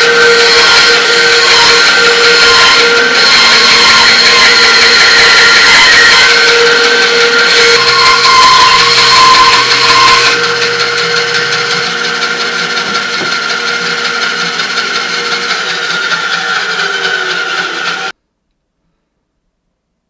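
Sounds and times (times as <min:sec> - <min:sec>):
power saw cutting wood: 0:00.0 - 0:18.2.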